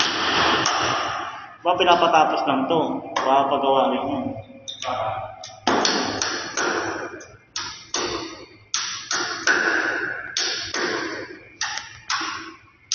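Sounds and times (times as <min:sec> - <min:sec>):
sharp knocks echoing in stairwell: 0:00.0 - 0:03.5, 0:04.8 - 0:12.6.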